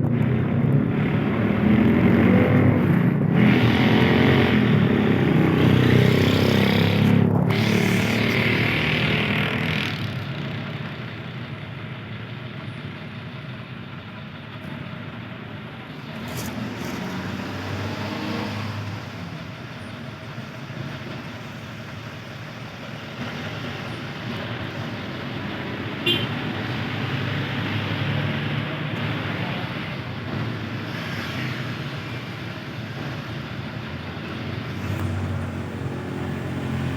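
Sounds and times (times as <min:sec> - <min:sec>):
road traffic passing: 0:00.0 - 0:36.9.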